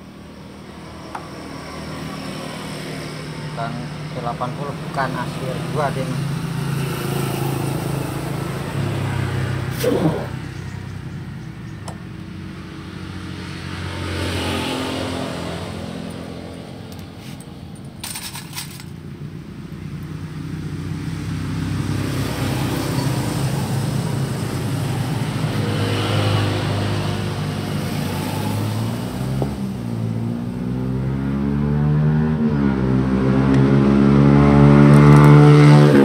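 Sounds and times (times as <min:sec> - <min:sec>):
engine running: 0:00.0 - 0:30.8.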